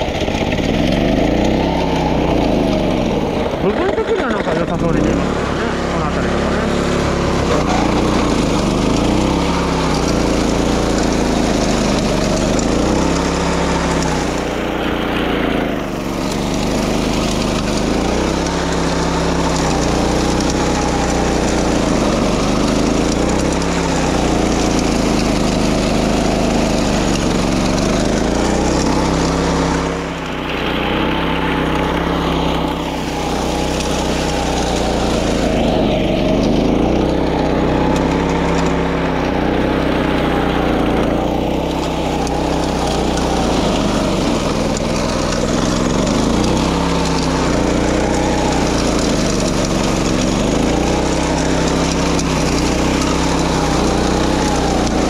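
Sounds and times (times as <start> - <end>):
petrol mower engine running: 0.0 - 55.0.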